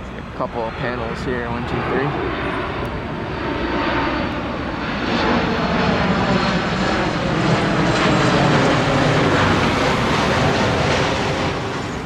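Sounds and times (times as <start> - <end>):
plane flying overhead: 0.0 - 12.0.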